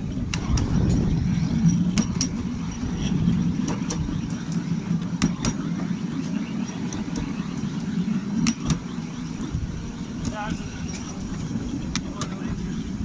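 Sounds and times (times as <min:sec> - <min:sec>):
train wheels rumbling on rail: 0:00.0 - 0:13.0
wheels clicking over rail joints: 0:00.0 - 0:13.0.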